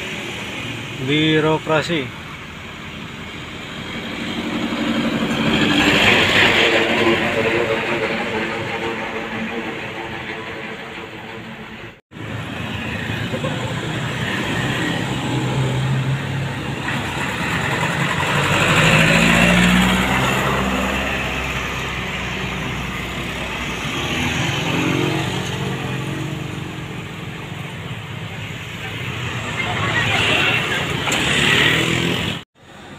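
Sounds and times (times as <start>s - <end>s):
motorcycle engines: 0.0s - 9.8s, 12.2s - 32.9s
car engines passing: 0.0s - 11.2s, 12.1s - 32.9s.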